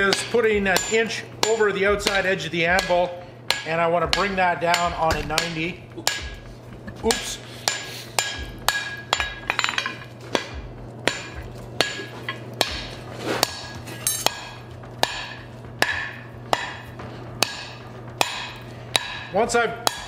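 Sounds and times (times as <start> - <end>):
hammer striking steel on anvil: 0.0 - 20.0.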